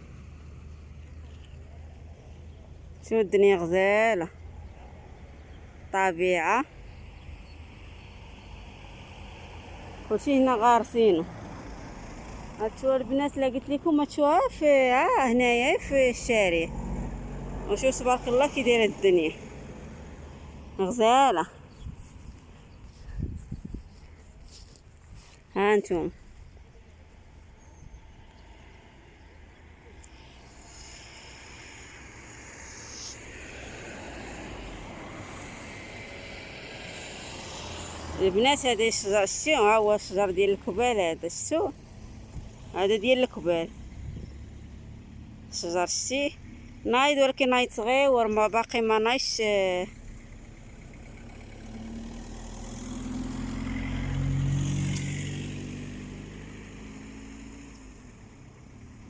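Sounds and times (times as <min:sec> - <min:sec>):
passing car traffic: 0:00.0 - 0:59.0.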